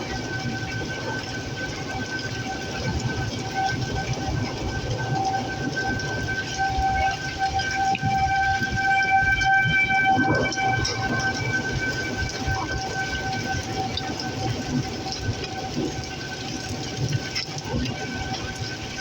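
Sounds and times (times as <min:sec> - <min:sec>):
steady rain: 0:00.0 - 0:19.0
warning siren steady tone: 0:00.0 - 0:19.0.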